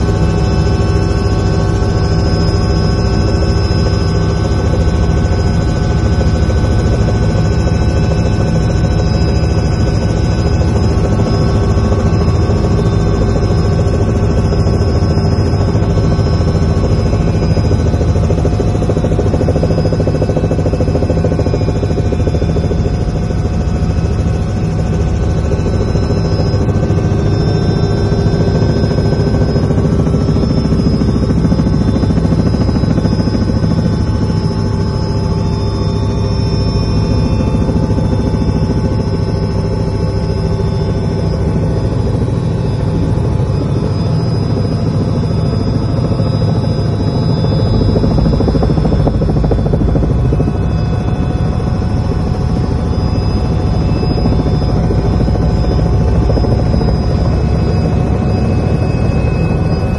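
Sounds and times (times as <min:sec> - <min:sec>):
helicopter cabin drone: 0:00.0 - 0:59.9
high turbine whine: 0:00.0 - 0:59.9.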